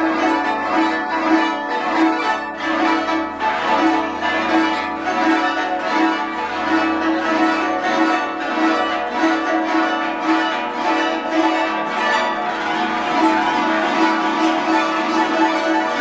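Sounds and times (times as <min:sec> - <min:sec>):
zither plucked melody: 0:00.0 - 0:16.0.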